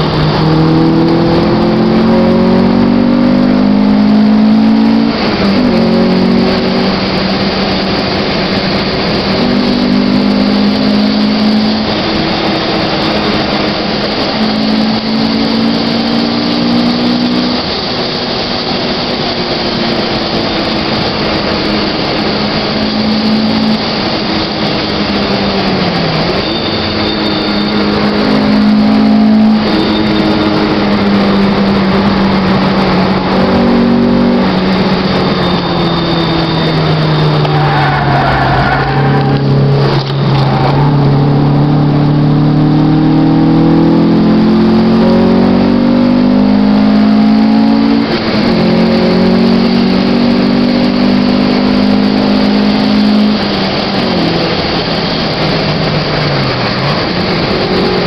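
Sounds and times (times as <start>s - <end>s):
car engine at high revs: 0.0s - 58.0s
wind and road noise: 0.0s - 58.0s.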